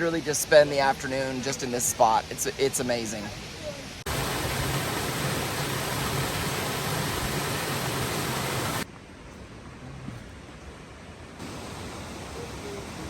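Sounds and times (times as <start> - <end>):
waterfall roaring: 0.0 - 8.9, 11.4 - 13.0.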